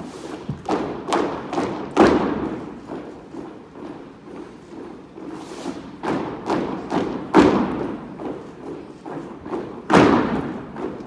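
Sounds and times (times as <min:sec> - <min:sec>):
boots marching and stamping: 0:00.3 - 0:11.0.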